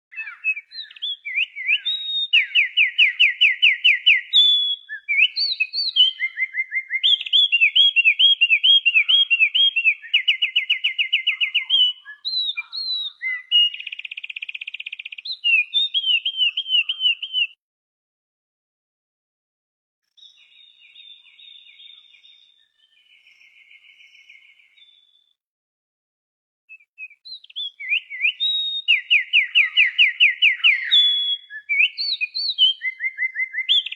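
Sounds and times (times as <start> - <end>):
songbird singing whistled phrases: 0.1 - 17.6, 20.1 - 25.3, 26.7 - 33.9.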